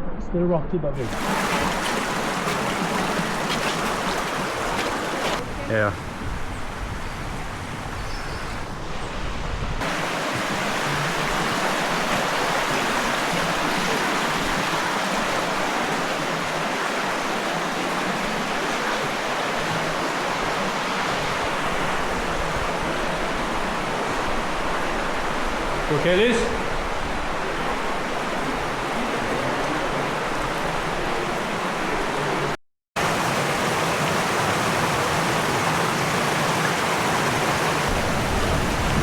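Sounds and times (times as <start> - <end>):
stream water rushing: 1.0 - 8.7, 9.8 - 39.0.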